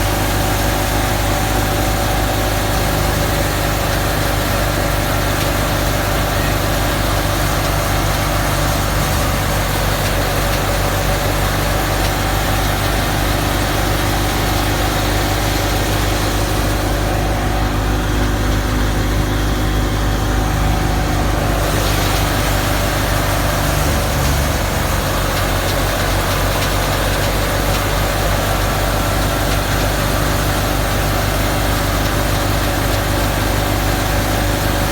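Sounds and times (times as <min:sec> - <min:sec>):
threshing machine whirring: 0:00.0 - 0:34.9
tractor diesel engine running: 0:00.0 - 0:34.9.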